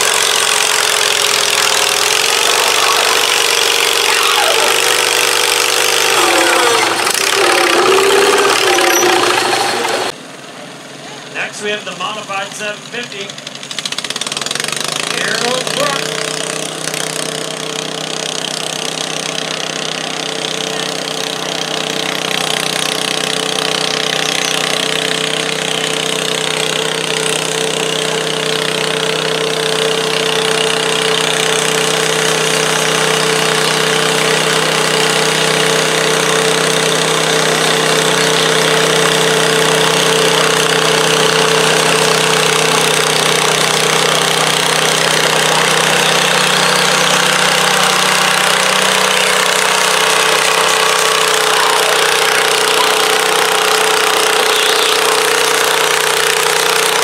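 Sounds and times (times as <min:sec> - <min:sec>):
tractor engine running under load: 0:00.0 - 0:10.2, 0:11.2 - 0:57.0.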